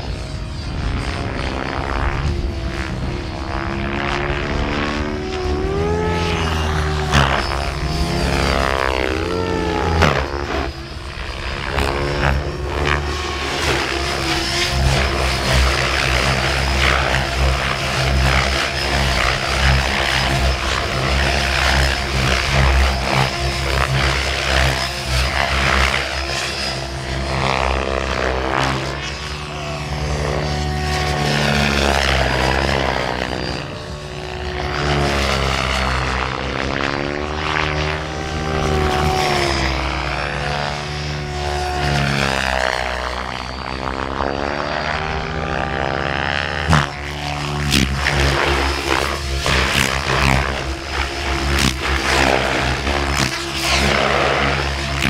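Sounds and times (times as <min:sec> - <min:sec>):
electric motor whine: 0:00.0 - 0:55.0
rc helicopter rotors whirring: 0:00.0 - 0:55.0.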